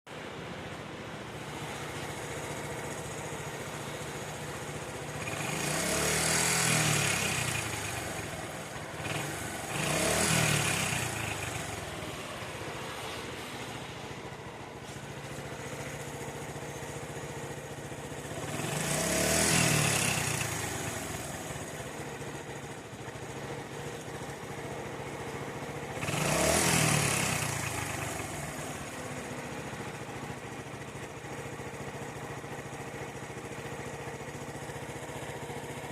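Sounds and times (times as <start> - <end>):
motorcycle engine idling and revving: 0.1 - 35.9.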